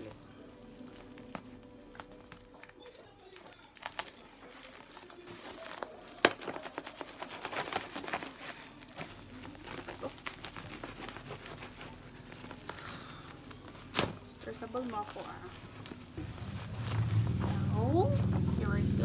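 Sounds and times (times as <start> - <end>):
plastic packaging crinkling and tearing: 0.0 - 18.7.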